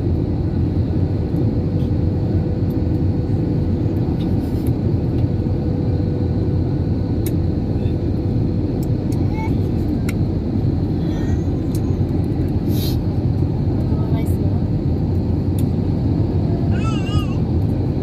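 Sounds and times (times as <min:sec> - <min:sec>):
airplane engines rumbling: 0:00.0 - 0:18.0.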